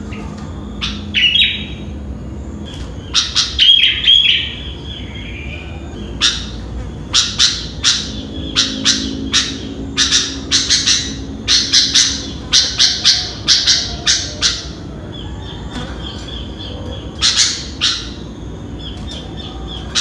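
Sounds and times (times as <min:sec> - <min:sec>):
bird calling: 0:00.0 - 0:20.0.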